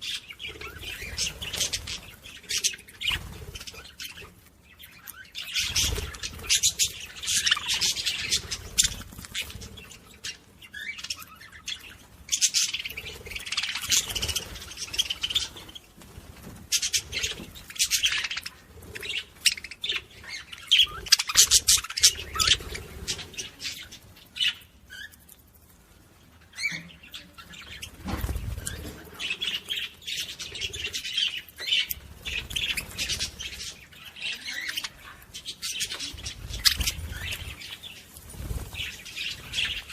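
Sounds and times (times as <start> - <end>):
budgerigars chattering and warbling: 0.0 - 15.8, 16.6 - 25.1, 26.5 - 39.9.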